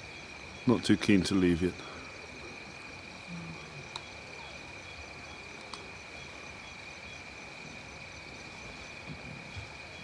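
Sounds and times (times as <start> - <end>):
insects chirring: 0.0 - 10.0
pulsing insect call: 0.0 - 10.0.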